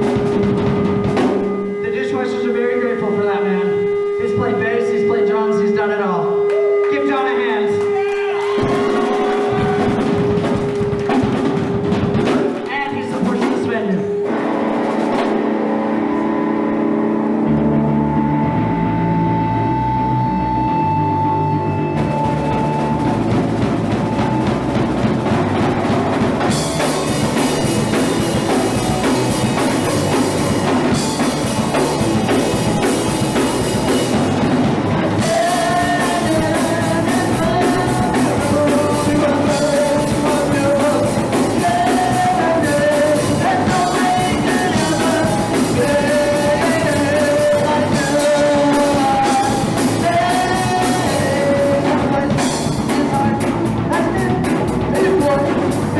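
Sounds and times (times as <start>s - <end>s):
wavering melody line: 0.0s - 10.9s, 14.0s - 51.4s
punk rock band playing live: 0.0s - 55.9s.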